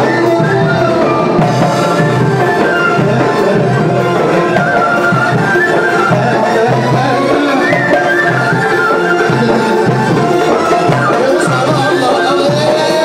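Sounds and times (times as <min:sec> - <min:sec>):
drum kit beat: 0:00.0 - 0:13.0
goblet drums: 0:00.0 - 0:13.0
person singing into microphone: 0:00.0 - 0:13.0
wavering melody line: 0:00.0 - 0:13.0.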